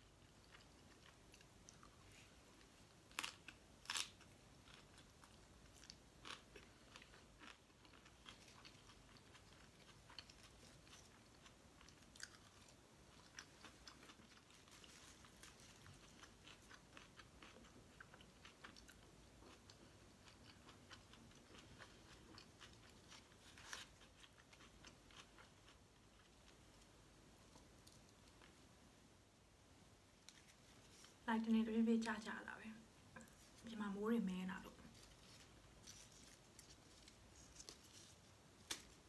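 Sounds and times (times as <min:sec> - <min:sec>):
faint chewing: 0:00.0 - 0:28.7, 0:30.1 - 0:32.3, 0:34.6 - 0:39.0.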